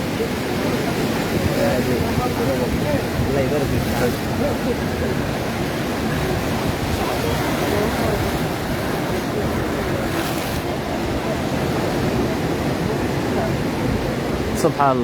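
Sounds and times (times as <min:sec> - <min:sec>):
wind on microphone: 0:00.0 - 0:14.7
surf washing onto beach: 0:00.0 - 0:15.0.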